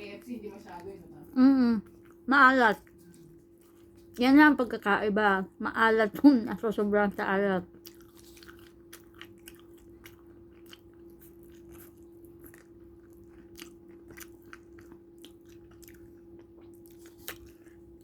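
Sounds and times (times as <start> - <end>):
chewing and crunching: 0.0 - 18.0.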